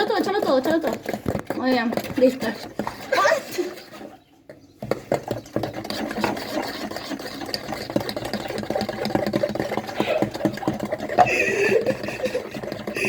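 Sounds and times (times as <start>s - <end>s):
electric mixer rattling: 0.0s - 3.0s, 5.0s - 13.0s.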